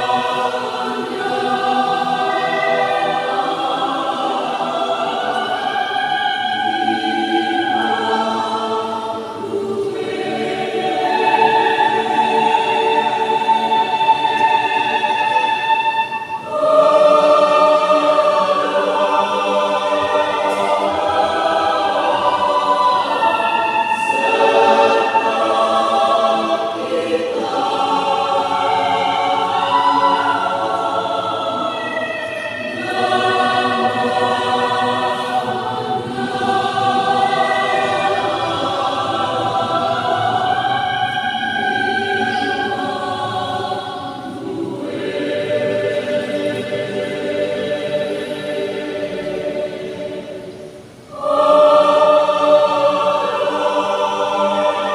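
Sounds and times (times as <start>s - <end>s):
youth choir singing: 0.0s - 54.9s.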